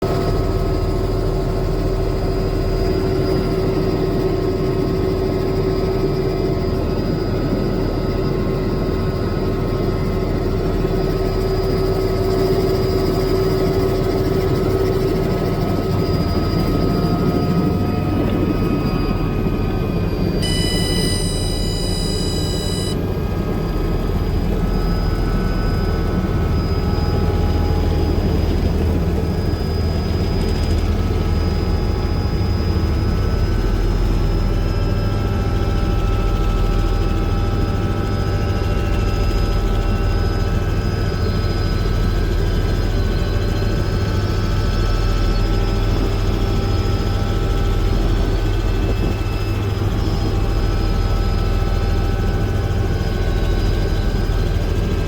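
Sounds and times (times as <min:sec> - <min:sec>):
helicopter drone and whine: 0:00.0 - 0:55.0.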